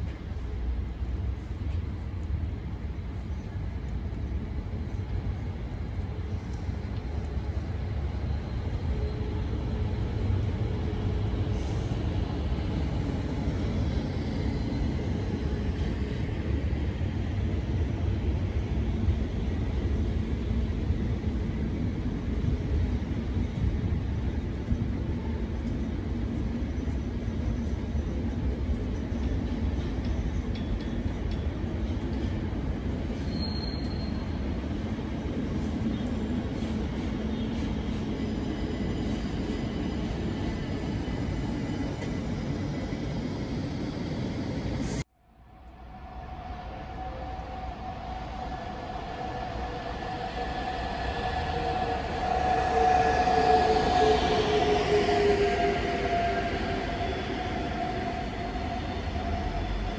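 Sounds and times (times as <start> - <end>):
train rumbling slowly: 0.0 - 59.9.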